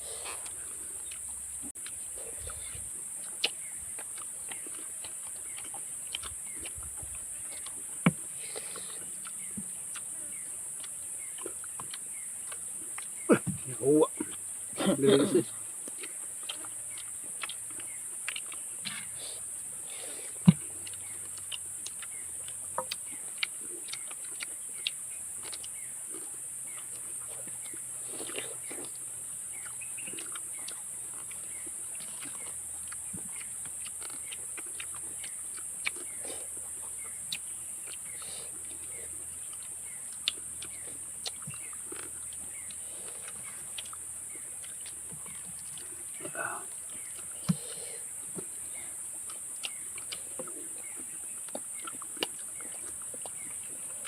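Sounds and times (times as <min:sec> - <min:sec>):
wet chewing and mouth smacks: 0:00.1 - 0:14.6, 0:15.7 - 0:54.0.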